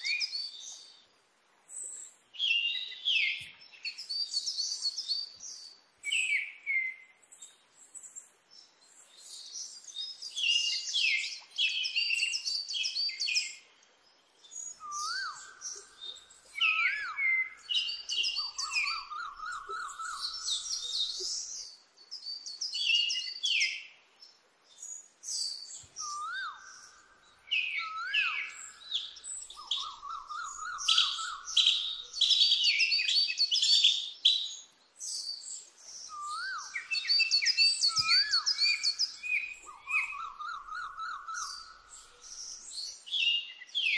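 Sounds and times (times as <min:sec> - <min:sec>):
birds chirping and trilling: 0:01.7 - 0:43.9.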